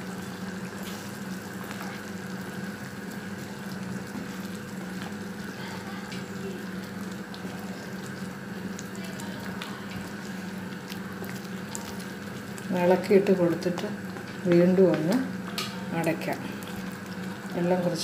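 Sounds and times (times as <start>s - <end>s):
curry bubbling in a pan: 0.0s - 18.0s.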